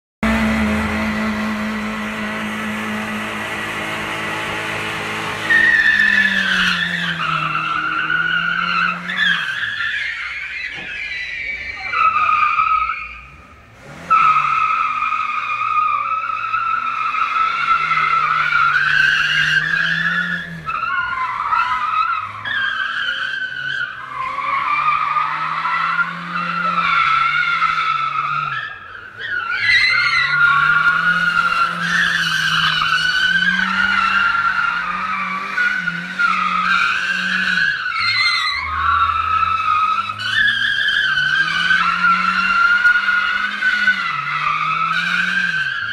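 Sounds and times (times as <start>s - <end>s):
car tyres squealing: 0.2s - 45.9s
high-revving car engine: 0.2s - 45.9s.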